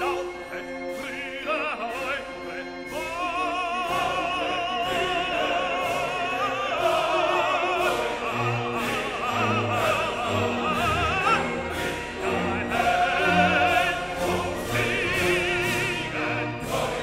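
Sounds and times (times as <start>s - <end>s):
operatic singing with vibrato: 0.0s - 17.0s
orchestral accompaniment: 0.0s - 17.0s.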